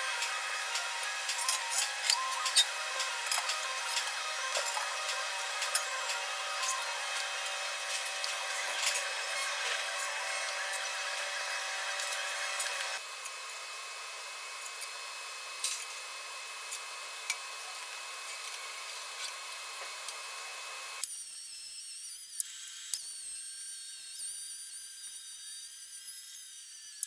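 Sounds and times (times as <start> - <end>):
angle grinder whining on metal: 0.0 - 27.0.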